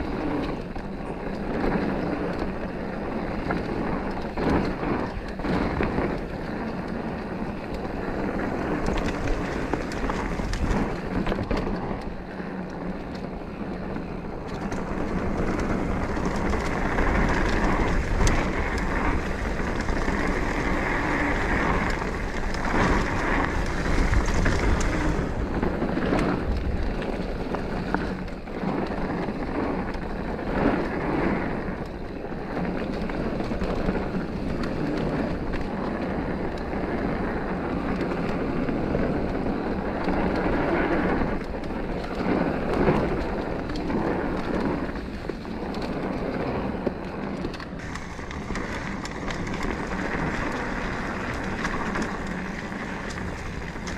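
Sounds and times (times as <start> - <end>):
bike knocks and rattles: 0.0 - 53.9
bike tyres rolling on dirt trail: 0.0 - 53.9
wind noise on microphone: 0.0 - 53.9.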